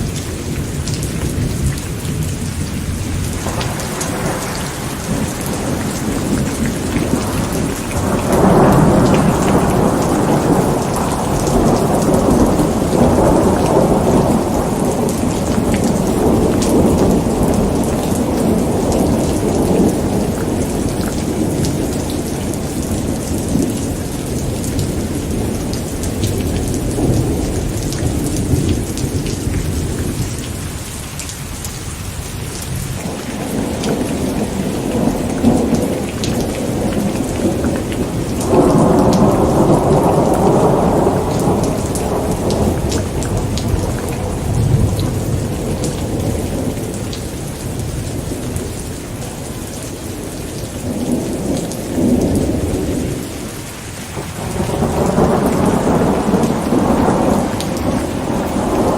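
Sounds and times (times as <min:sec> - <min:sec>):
thunder rumbling: 0:00.0 - 0:30.8, 0:32.5 - 0:58.9
steady rain: 0:00.0 - 0:58.9.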